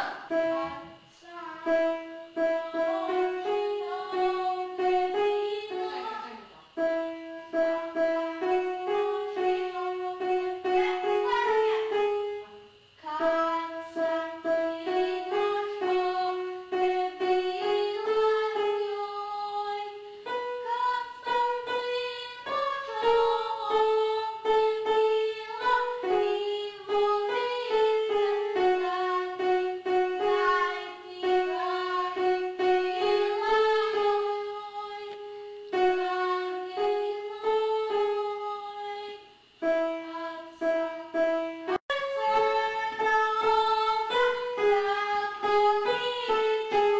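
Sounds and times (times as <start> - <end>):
slow keyboard melody: 6.8 - 46.9.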